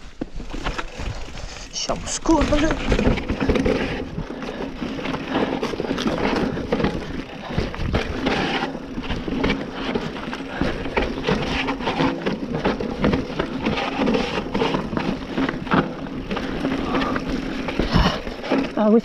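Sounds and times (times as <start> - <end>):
bike rattling over bumps: 0.0 - 19.0
bike tyres on dirt and stones: 0.0 - 19.0.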